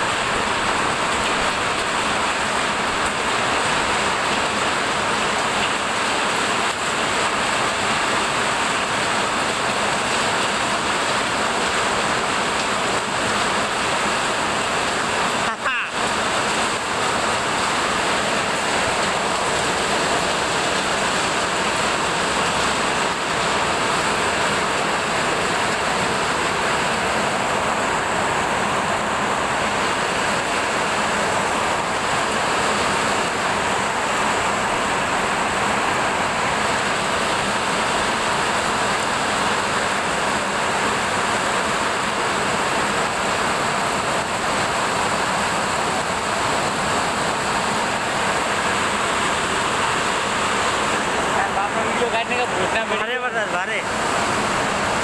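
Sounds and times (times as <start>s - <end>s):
heavy rain and hail: 0.0s - 55.0s.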